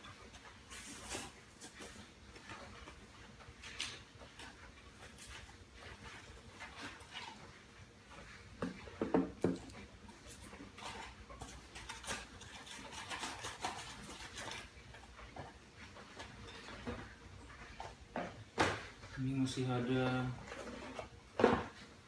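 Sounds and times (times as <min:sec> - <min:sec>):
cardboard and plastic packaging rustling: 0:00.0 - 0:22.0.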